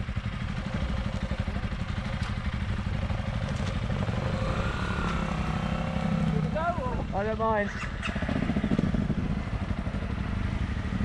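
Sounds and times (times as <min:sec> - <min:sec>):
vehicle engine throbbing: 0:00.0 - 0:11.0.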